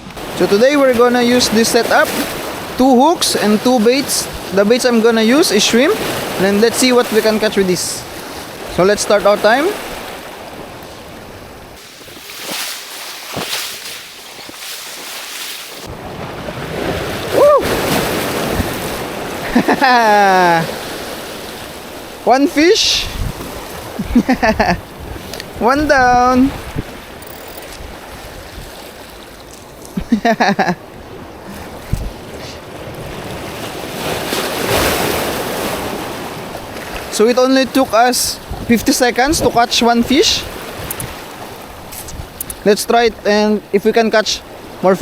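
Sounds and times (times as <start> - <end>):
wind buffeting microphone: 0.0 - 12.5, 13.2 - 30.2, 30.8 - 43.3
waves washing: 0.0 - 45.0
wind: 0.0 - 45.0.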